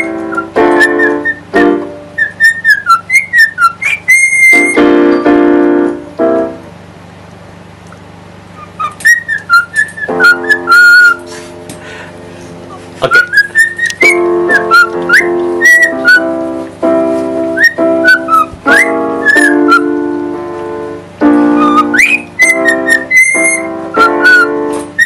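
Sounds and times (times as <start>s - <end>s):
whistled melody: 0.0s - 5.9s, 8.6s - 11.4s, 13.0s - 25.0s
piano chords: 0.0s - 25.0s.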